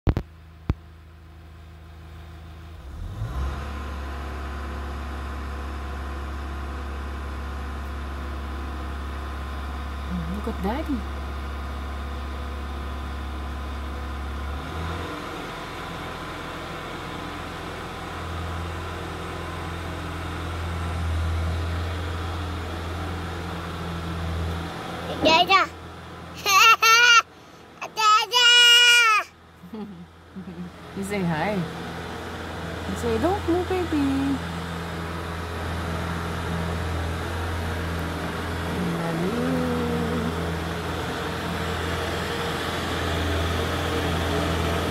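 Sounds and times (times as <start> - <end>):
engine drone inside vehicle: 0.1 - 44.9.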